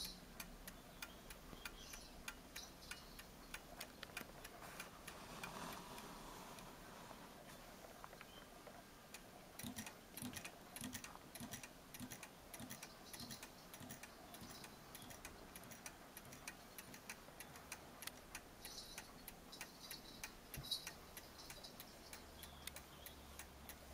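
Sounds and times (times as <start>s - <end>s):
clock escapement ticking: 0.0s - 5.6s, 9.1s - 23.9s.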